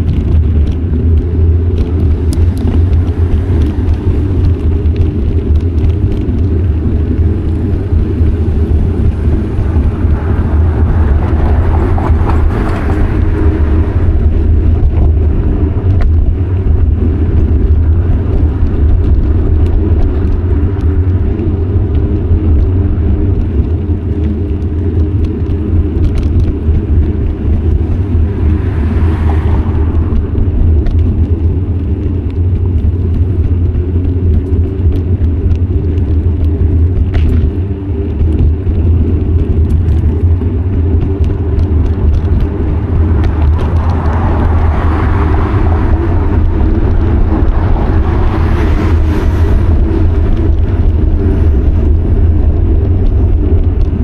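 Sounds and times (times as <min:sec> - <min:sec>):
low wind rumble on microphone: 0:00.0 - 0:54.0
road vehicles passing: 0:00.0 - 0:54.0.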